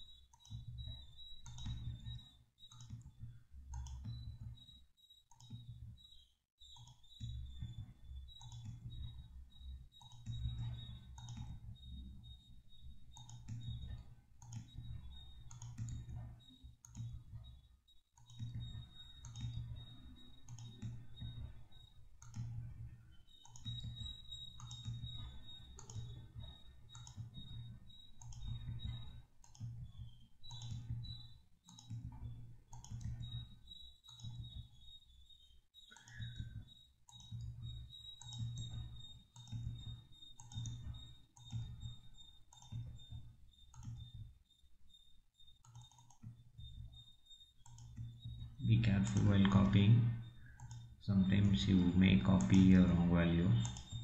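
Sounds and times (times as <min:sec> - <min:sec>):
mouse and keyboard clicking: 0:00.0 - 0:04.6, 0:05.3 - 0:17.6, 0:18.2 - 0:22.7, 0:23.3 - 0:44.2, 0:45.6 - 0:46.3, 0:47.6 - 0:54.0.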